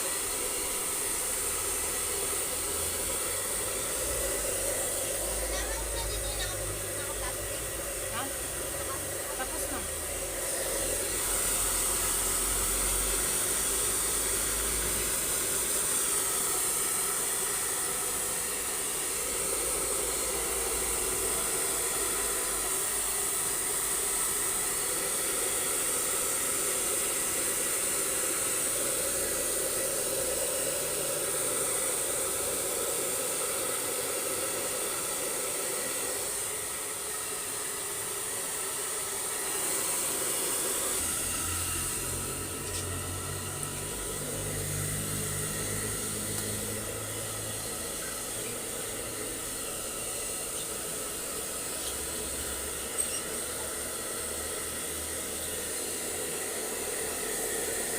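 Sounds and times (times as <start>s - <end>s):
hair dryer blowing: 0.0s - 57.9s.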